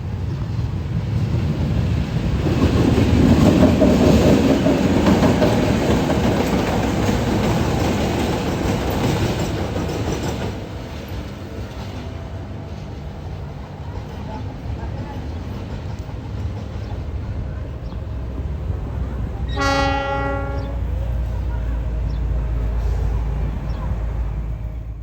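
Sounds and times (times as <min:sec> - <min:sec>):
train rumbling past: 0:00.0 - 0:25.0.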